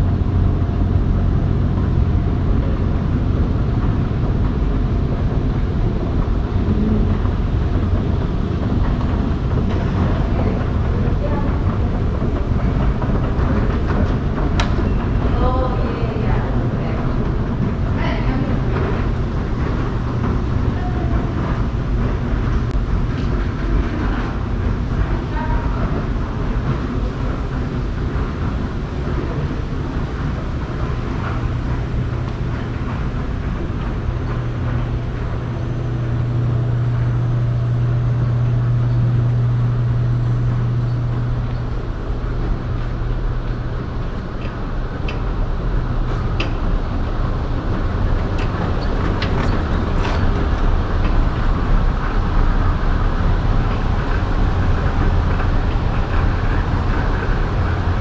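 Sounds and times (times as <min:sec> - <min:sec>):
low machinery hum: 0:00.0 - 0:58.0.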